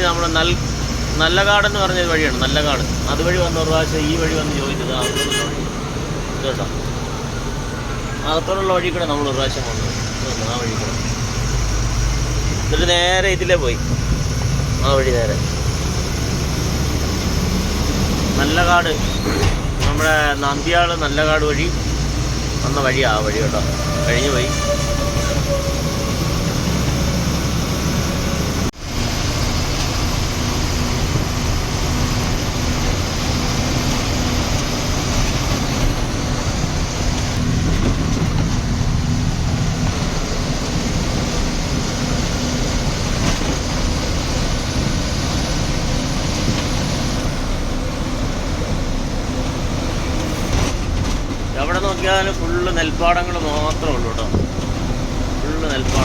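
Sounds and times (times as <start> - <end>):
truck diesel engine cruising: 0.0 - 56.0.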